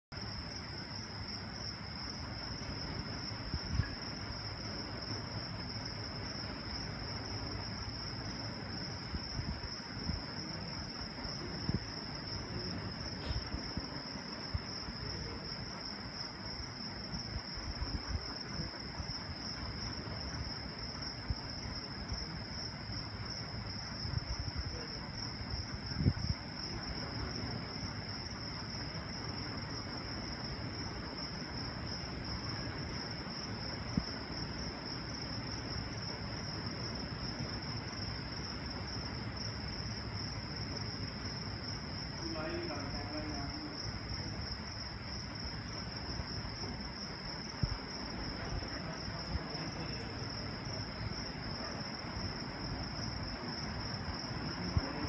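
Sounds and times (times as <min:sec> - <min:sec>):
night insects chirping: 0:00.1 - 0:55.0
faint low rumble: 0:00.2 - 0:55.0.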